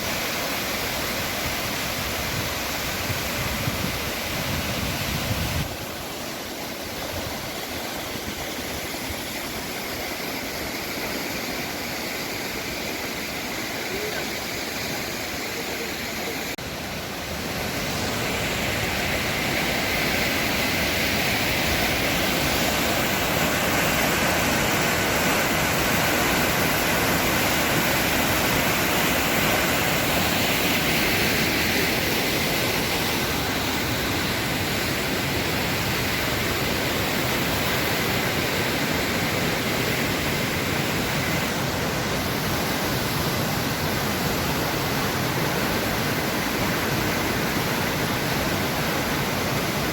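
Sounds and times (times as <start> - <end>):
waterfall rushing and crashing: 0.0 - 49.9.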